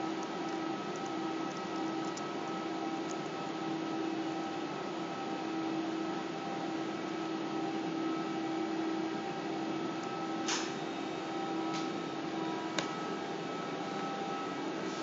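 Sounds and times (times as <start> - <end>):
electrical equipment humming: 0.0 - 15.0.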